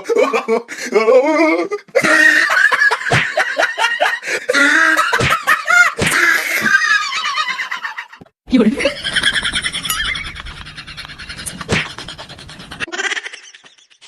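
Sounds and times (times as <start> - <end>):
people laughing loudly: 1.9 - 14.0.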